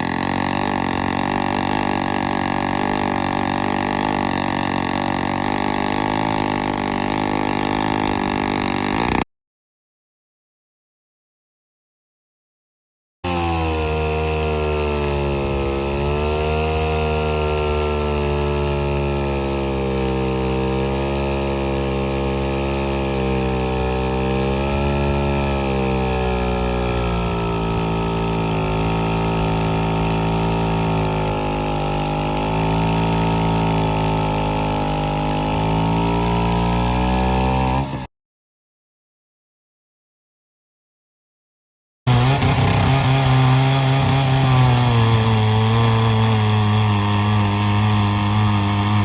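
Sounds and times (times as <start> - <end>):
chainsaw engine running: 0.0 - 9.3, 13.2 - 38.1, 42.1 - 49.0.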